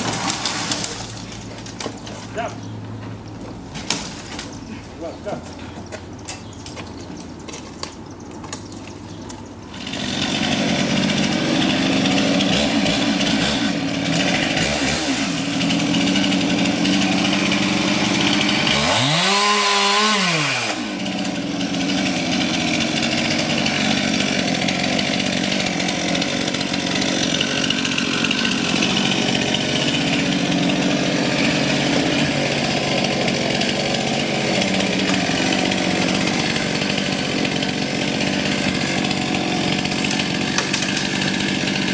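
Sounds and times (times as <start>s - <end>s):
chainsaw cutting wood: 0.0s - 2.0s, 9.4s - 41.9s.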